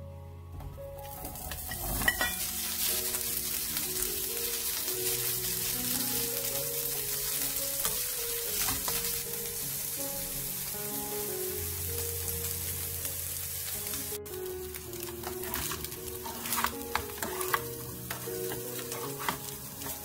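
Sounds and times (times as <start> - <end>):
soft background music: 0.0 - 20.0
meat sizzling in a pan: 1.0 - 20.0.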